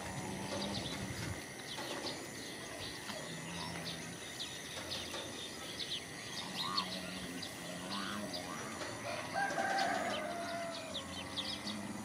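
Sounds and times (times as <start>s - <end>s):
rural background noise: 0.0s - 12.0s
small birds chirping: 0.0s - 12.0s.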